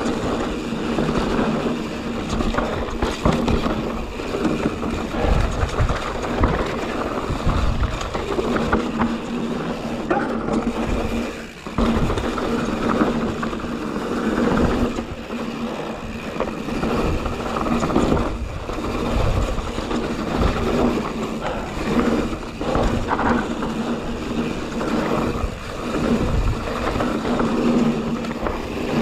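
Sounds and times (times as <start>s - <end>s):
bike rattling over bumps: 0.0s - 29.0s
bike tyres rolling over dirt: 0.0s - 29.0s.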